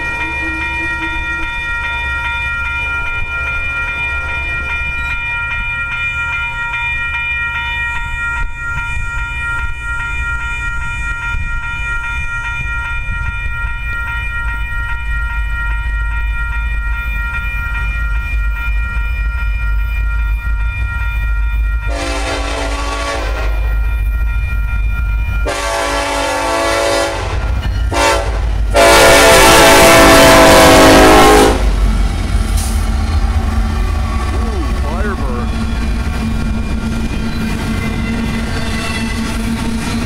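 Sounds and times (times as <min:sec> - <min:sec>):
crossing warning bell ringing: 0:00.0 - 0:40.0.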